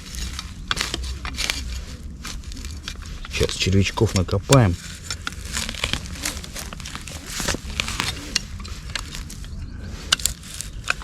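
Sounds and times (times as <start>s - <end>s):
scrapes and crunches of earth: 0.0s - 11.0s.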